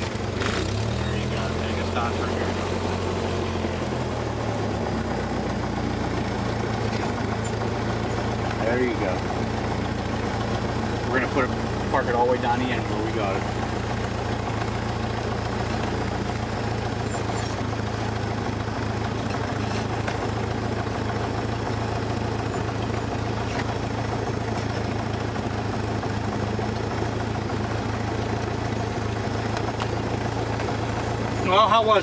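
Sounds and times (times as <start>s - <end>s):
aircraft piston engine hum: 0.0s - 32.0s.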